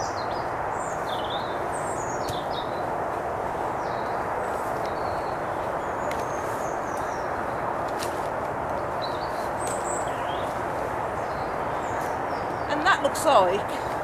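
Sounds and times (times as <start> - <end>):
small birds chirping: 0.0 - 14.0
steady background hiss: 0.0 - 14.0.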